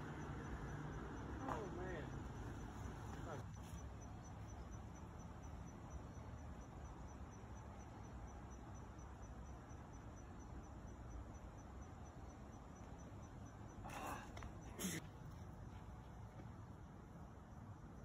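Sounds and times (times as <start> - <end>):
insect chirping: 0.0 - 18.0.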